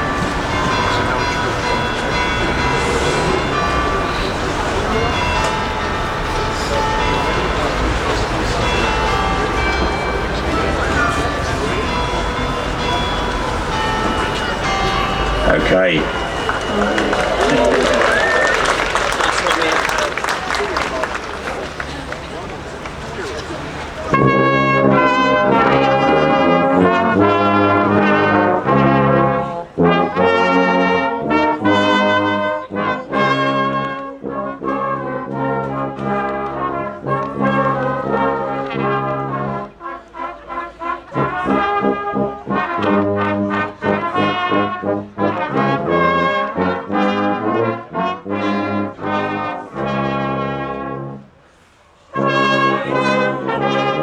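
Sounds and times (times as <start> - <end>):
brass band playing a carol: 0.0 - 54.0.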